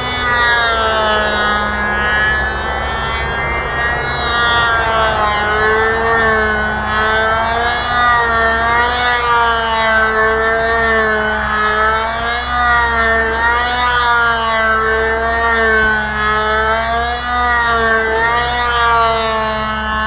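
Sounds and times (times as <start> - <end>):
model airplane engine buzzing: 0.0 - 20.0.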